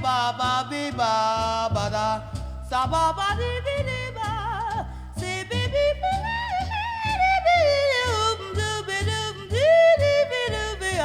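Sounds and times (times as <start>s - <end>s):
walking bass line: 0.0s - 11.0s.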